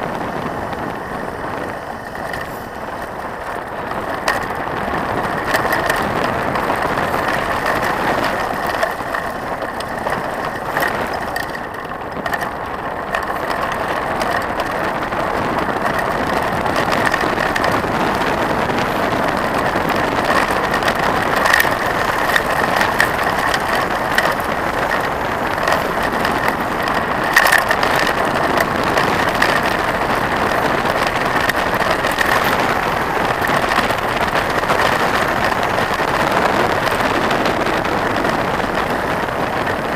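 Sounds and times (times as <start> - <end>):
bike knocking over bumps: 0.0 - 39.9
bike tyres rumbling on gravel: 0.0 - 39.9.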